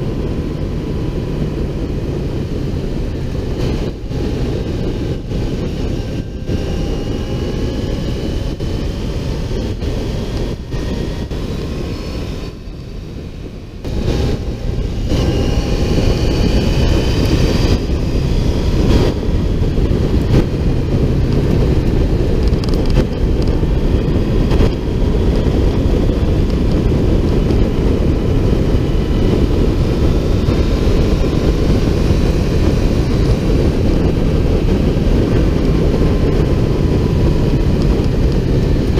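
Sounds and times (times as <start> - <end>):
motorcycle engine accelerating: 0.0 - 38.9
wind rush: 0.0 - 38.9.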